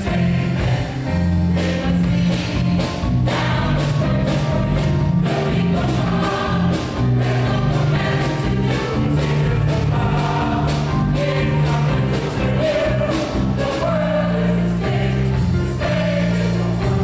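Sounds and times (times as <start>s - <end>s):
instrumental accompaniment: 0.0s - 17.0s
large choir singing: 0.0s - 17.0s.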